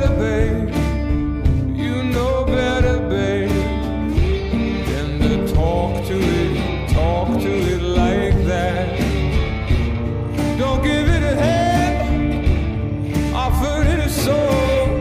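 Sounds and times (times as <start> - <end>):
song with singing voice: 0.0 - 15.0.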